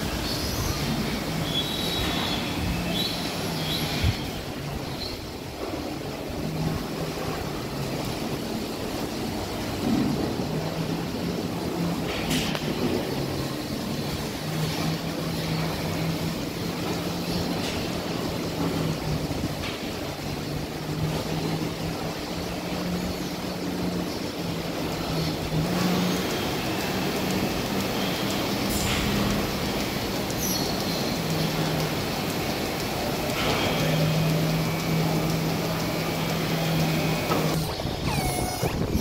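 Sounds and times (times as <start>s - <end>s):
milking machinery humming: 0.0s - 39.0s.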